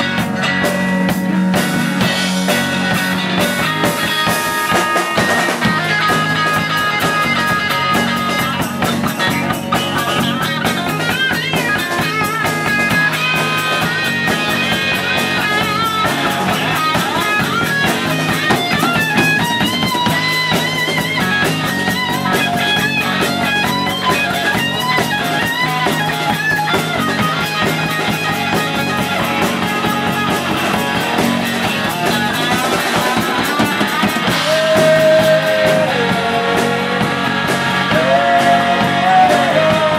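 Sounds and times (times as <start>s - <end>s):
drum kit: 0.0s - 39.9s
electric guitar lead with bending notes: 0.0s - 39.9s.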